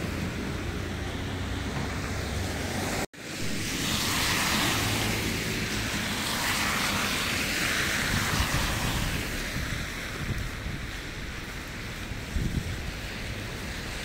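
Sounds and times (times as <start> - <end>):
car tyres hissing on snow: 0.0 - 14.0
street traffic noise: 0.0 - 14.0.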